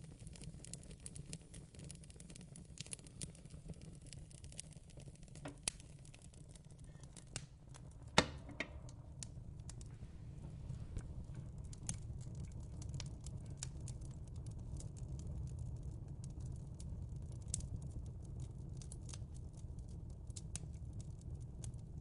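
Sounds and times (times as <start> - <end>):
fireplace crackling: 0.0 - 22.0.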